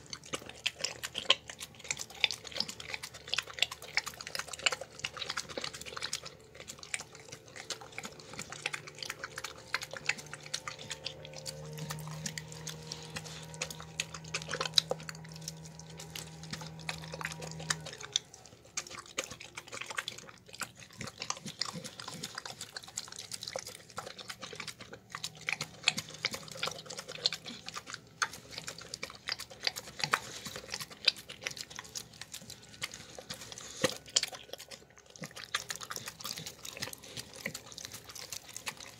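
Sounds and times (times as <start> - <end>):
dog chewing and slurping: 0.0 - 38.9.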